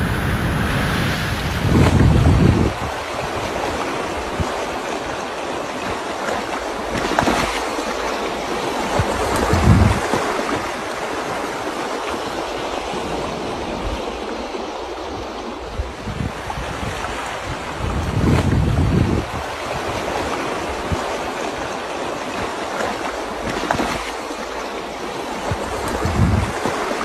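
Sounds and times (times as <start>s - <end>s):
wind gusts on microphone: 0.0s - 24.1s, 24.9s - 27.0s
floodwater rushing and churning: 0.0s - 27.0s.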